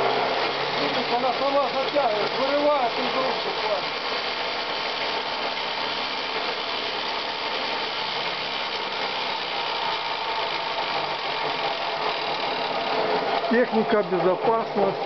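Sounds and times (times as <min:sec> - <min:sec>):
branch chipper rattling: 0:00.0 - 0:15.0.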